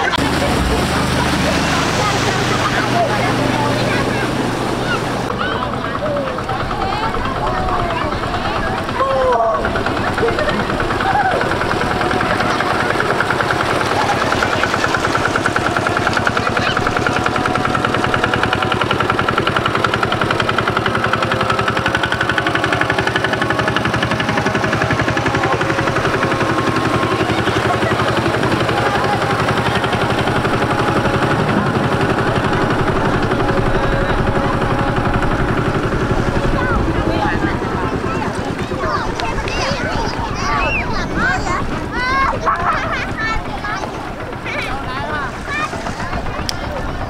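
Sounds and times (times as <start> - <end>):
small engine running: 0.0 - 47.0.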